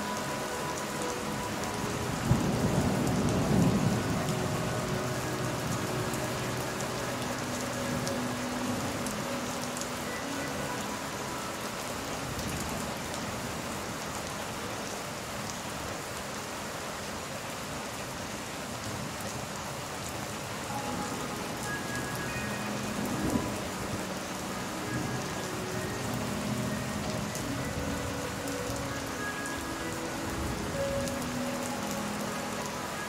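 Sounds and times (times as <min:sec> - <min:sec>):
gentle background music: 0:00.0 - 0:33.0
heavy rain falling: 0:00.0 - 0:33.0.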